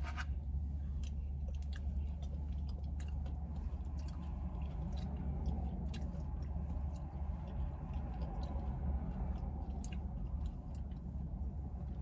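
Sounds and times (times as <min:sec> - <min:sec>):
steady low hum: 0:00.0 - 0:12.0
person chewing food: 0:00.8 - 0:12.0.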